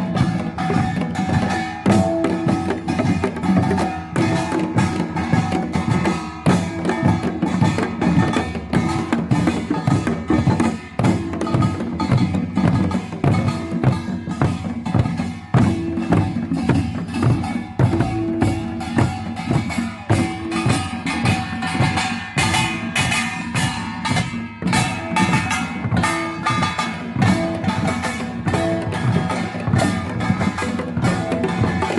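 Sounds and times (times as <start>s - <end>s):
drums beating fast rhythm: 0.0s - 31.9s.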